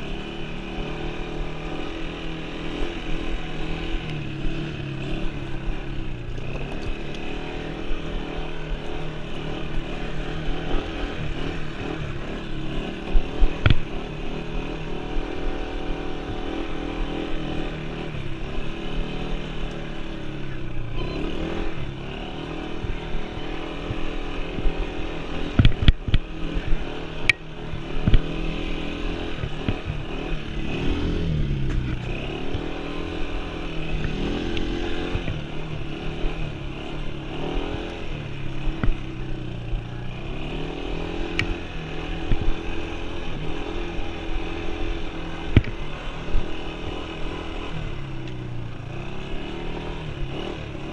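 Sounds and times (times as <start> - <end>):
quad engine running: 0.0 - 50.9.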